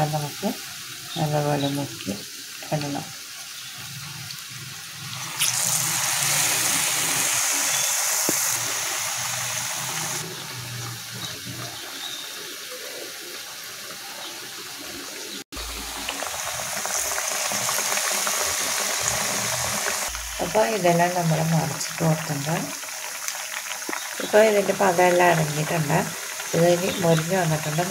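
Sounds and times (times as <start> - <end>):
hot oil sizzling: 0.0 - 27.9.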